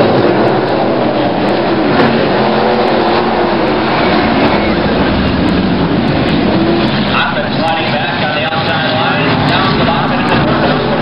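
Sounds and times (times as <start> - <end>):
race car engines racing past: 0.0 - 11.0.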